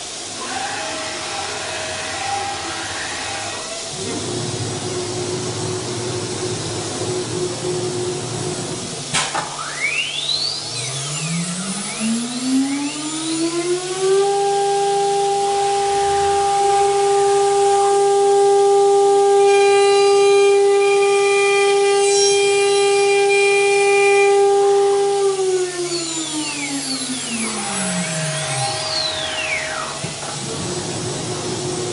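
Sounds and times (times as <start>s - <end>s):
spindle motor whine: 0.0s - 31.9s.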